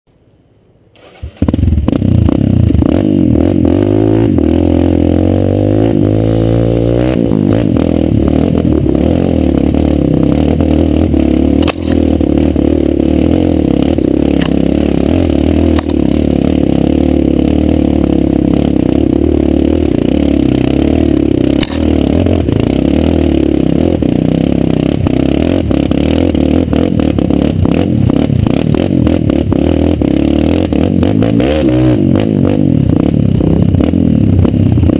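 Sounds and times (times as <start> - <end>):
dirt bike engine revving: 1.0 - 34.9.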